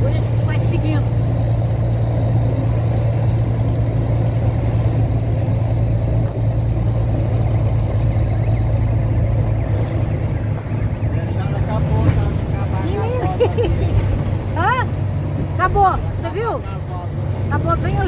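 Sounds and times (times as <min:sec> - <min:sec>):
road noise: 0:00.0 - 0:18.0
truck diesel engine droning: 0:00.0 - 0:18.0.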